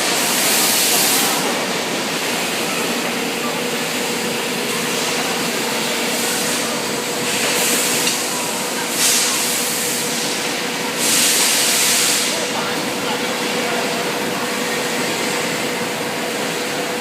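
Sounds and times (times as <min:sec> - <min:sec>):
spray coating machine humming: 0:00.0 - 0:17.0.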